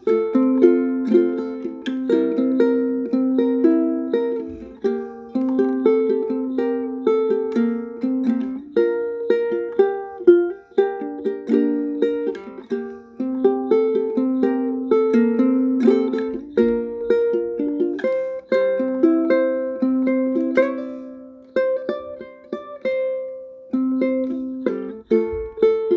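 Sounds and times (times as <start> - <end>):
ukulele melody with chords: 0.0 - 25.9.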